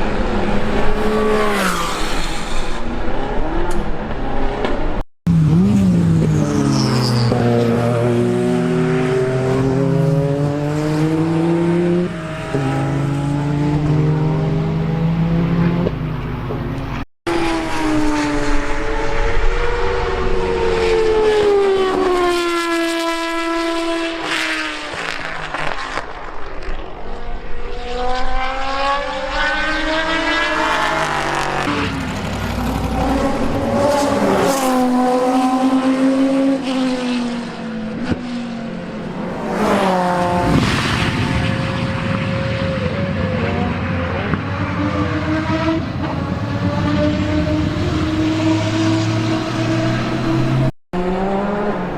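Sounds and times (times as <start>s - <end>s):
racing car engines revving: 0.0s - 51.9s.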